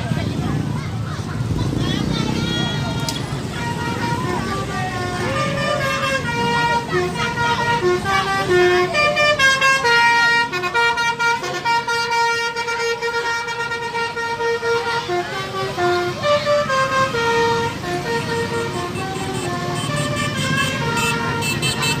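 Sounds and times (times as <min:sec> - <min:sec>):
low rumble of bus: 0:00.0 - 0:22.0
musical bus horn melody: 0:03.4 - 0:22.0.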